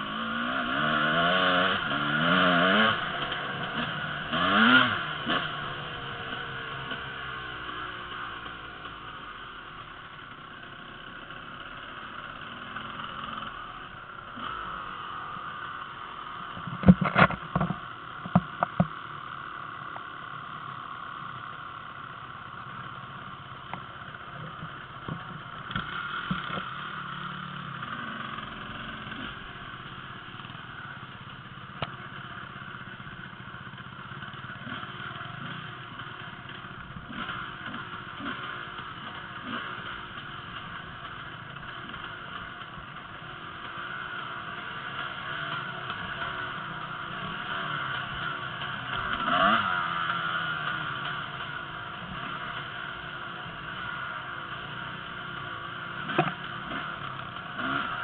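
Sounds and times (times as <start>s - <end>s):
dirt bike engines running: 0.0s - 58.0s.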